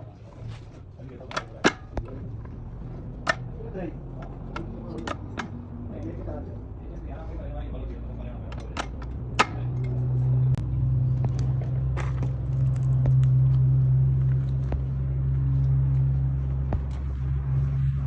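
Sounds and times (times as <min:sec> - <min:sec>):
car engine humming: 0:00.0 - 0:18.0.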